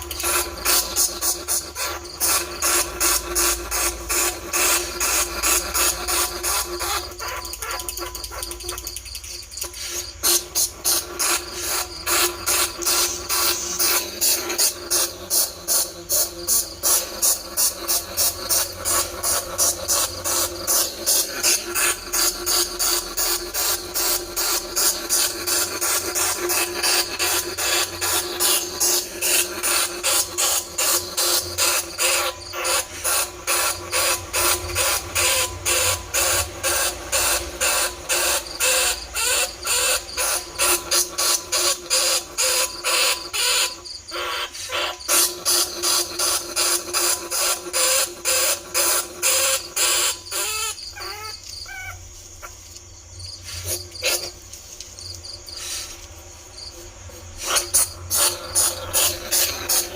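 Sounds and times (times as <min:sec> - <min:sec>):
rat squeals: 0:00.0 - 0:52.6, 0:53.2 - 0:54.4, 0:55.2 - 0:59.9.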